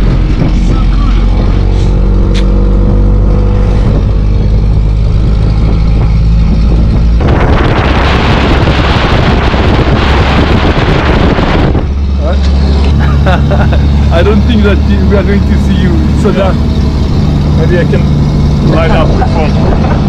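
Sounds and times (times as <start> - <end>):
truck engine hum: 0.0 - 20.0
wind and road noise rushing: 0.0 - 20.0.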